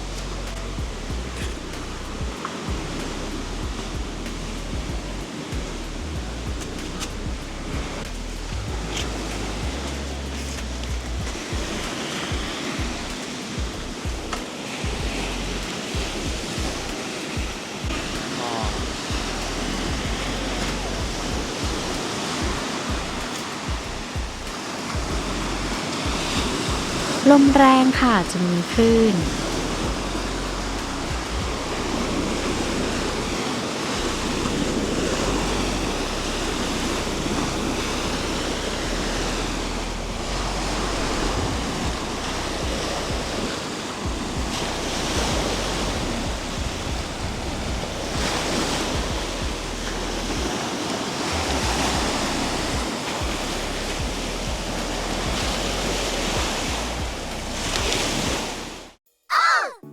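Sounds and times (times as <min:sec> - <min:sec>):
sea waves washing onto beach: 0:00.0 - 0:59.0
wind rumbling on microphone: 0:00.0 - 0:59.0.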